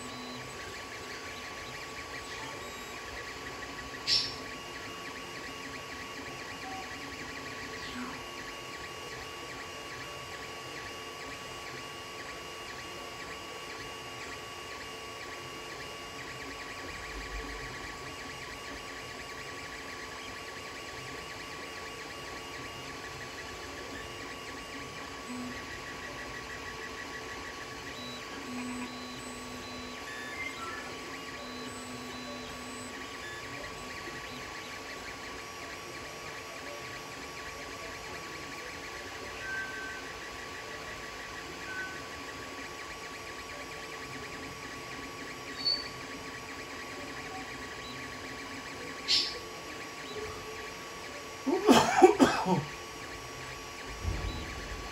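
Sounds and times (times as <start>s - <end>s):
cooling fans humming: 0.0s - 54.9s
stepper motors whining: 0.0s - 54.9s.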